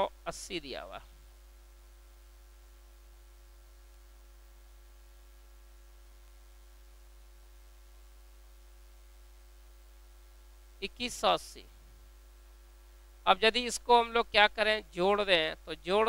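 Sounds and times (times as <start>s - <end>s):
electrical mains hum: 0.0s - 16.0s
light hiss: 0.2s - 13.8s.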